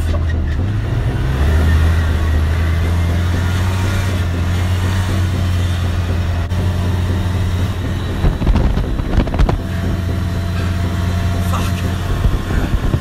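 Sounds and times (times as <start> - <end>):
engine and road drone: 0.0 - 13.0.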